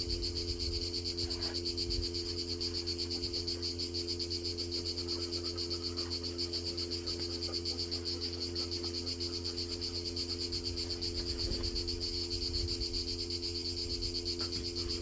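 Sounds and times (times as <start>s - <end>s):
insect trill: 0.0s - 15.0s
steady low hum: 0.0s - 15.0s.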